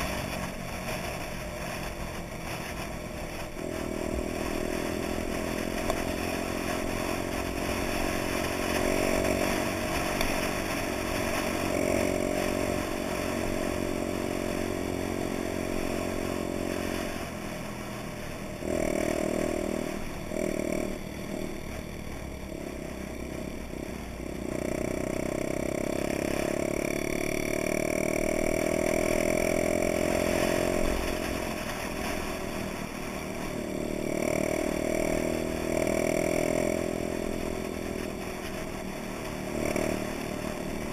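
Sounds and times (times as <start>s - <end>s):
small motorcycle engine running: 0.0s - 40.9s.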